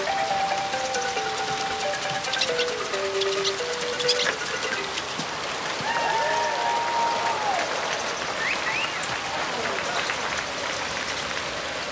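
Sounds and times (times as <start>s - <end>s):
rain falling: 0.0s - 11.9s.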